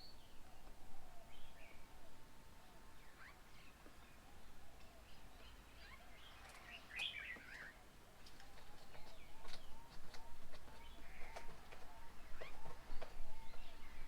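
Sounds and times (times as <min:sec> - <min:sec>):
small birds chirping: 0:02.7 - 0:14.0.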